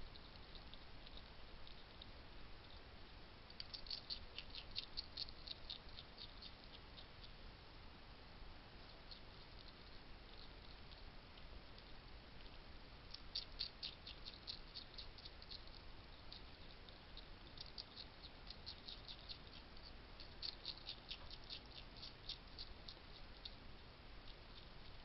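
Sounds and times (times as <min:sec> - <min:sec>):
hedgehog chewing crunchy clicks: 0:00.1 - 0:02.8, 0:03.5 - 0:07.4, 0:08.9 - 0:25.0.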